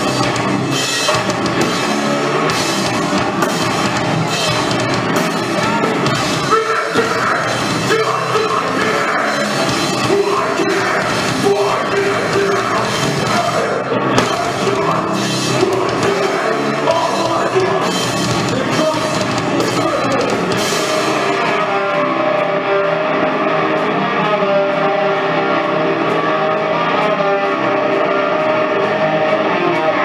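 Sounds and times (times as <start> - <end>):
ringing guitar chords: 0.0 - 30.0
rock band playing: 0.0 - 30.0.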